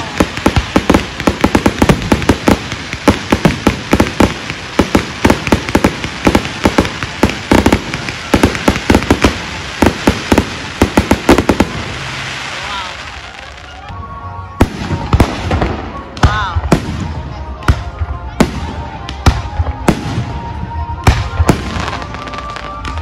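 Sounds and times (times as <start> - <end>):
fireworks bangs and crackles: 0.0 - 14.0, 14.6 - 23.0.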